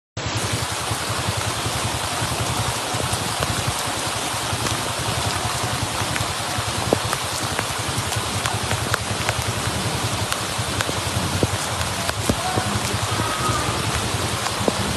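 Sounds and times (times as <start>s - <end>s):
heavy rain on a street: 0.2s - 14.9s.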